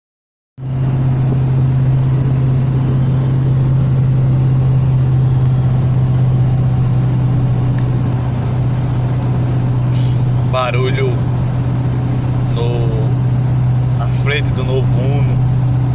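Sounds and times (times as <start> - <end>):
car road and engine noise: 0.6 - 15.9
low-pitched hum: 0.6 - 15.9.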